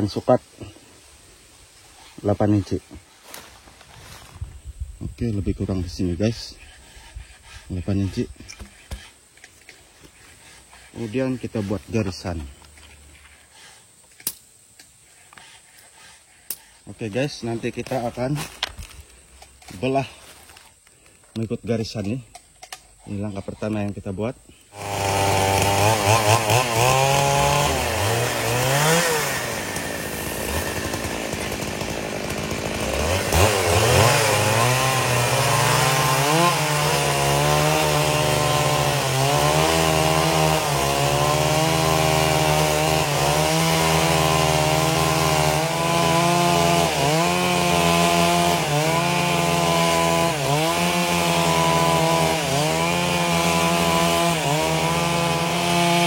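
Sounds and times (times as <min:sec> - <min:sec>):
chainsaw revving and cutting wood: 0:05.1 - 0:14.4, 0:15.0 - 0:20.6, 0:23.1 - 0:56.0.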